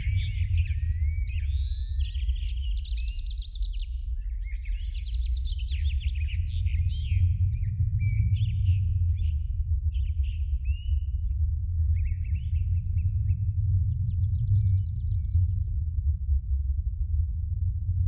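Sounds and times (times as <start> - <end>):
songbirds singing: 0.0 - 15.7
wind buffeting microphone: 0.0 - 18.0.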